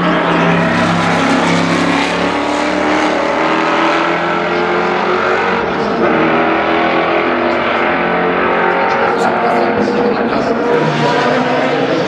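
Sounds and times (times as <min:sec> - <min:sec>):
racing car engine running: 0:00.0 - 0:12.0.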